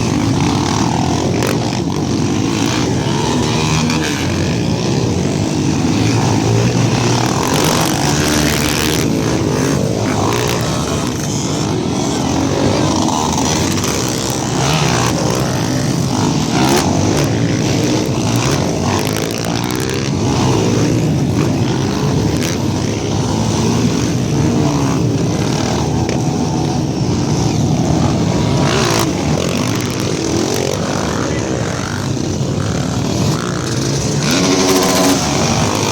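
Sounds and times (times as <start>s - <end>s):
motorcycle engines revving: 0.0s - 35.9s.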